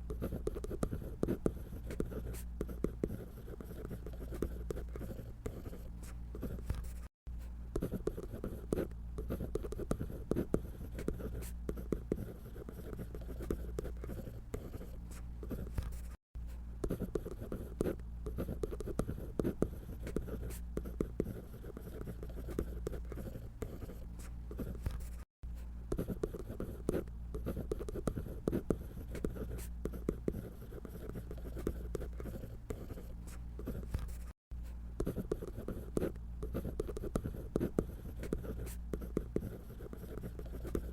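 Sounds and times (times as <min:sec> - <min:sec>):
pencil scratching on paper: 0:00.0 - 0:07.1, 0:07.7 - 0:16.2, 0:16.8 - 0:25.3, 0:25.9 - 0:40.9.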